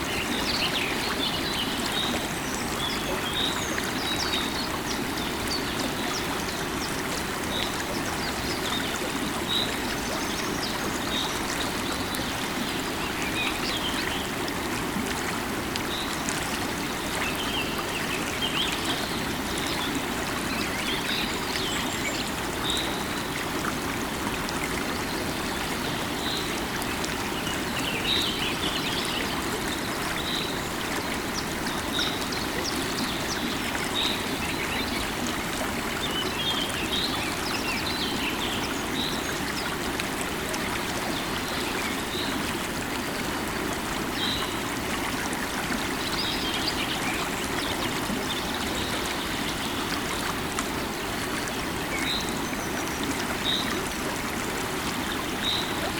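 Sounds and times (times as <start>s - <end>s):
river water flowing over rocks: 0.0s - 55.9s.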